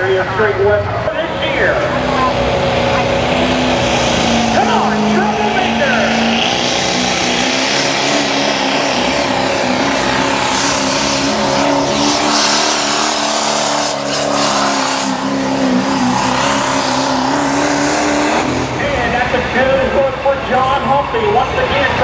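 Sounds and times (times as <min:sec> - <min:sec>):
diesel truck engine roaring: 0:00.0 - 0:22.0.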